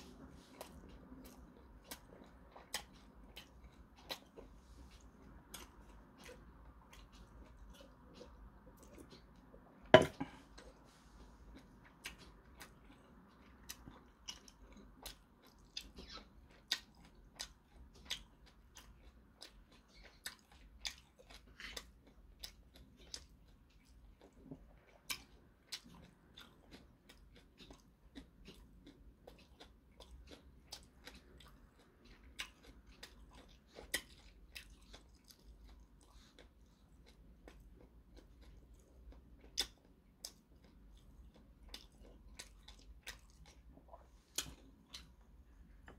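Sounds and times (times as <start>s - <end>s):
person chewing food: 0.0s - 45.9s.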